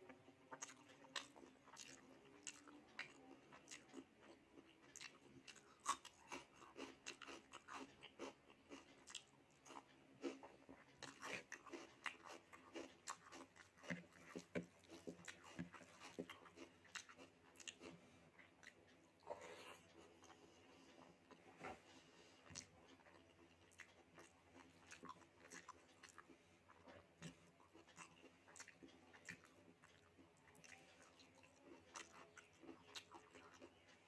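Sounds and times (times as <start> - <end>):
person chewing and crunching food: 0.0 - 34.0.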